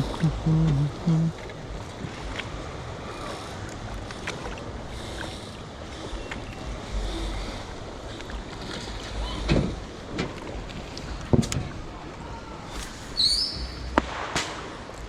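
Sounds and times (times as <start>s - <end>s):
fishing boat engine noise: 0.0s - 15.0s
water against hull: 0.0s - 15.0s
wind rumbling on microphone: 0.0s - 15.0s.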